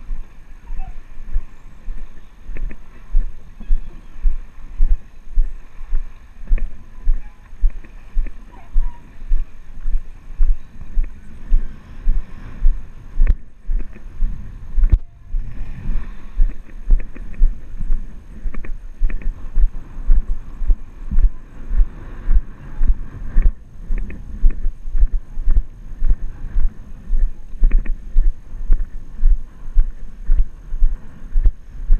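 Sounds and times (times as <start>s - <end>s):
wind on microphone: 0.0s - 31.9s.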